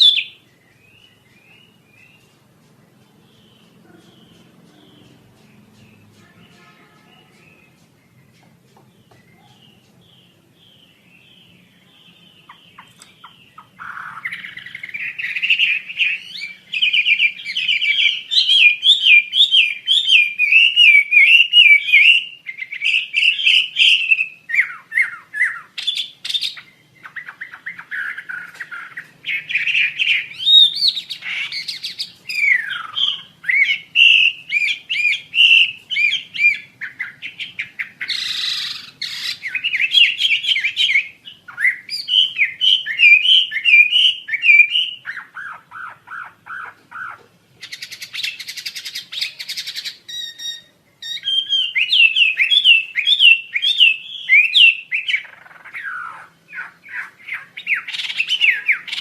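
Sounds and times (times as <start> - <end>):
songbird warbling: 0.0 - 59.0.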